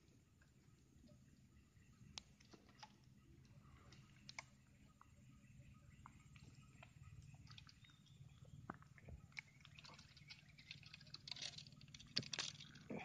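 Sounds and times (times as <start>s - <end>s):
light water sounds: 0.0s - 13.0s.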